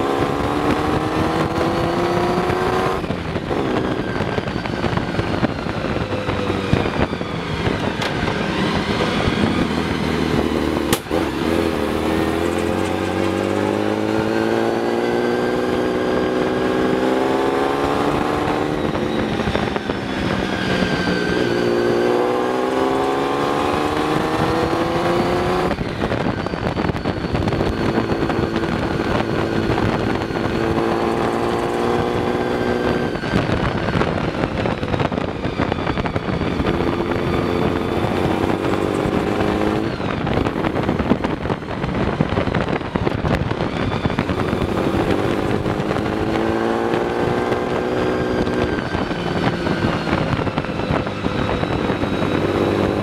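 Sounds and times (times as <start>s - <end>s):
car engine running hard: 0.0s - 53.0s
wind rush: 0.0s - 53.0s.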